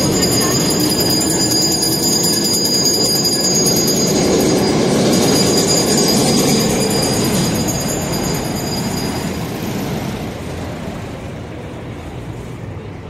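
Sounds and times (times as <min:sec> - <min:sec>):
high whine: 0:00.0 - 0:10.6
subway train rumbling: 0:00.0 - 0:13.0.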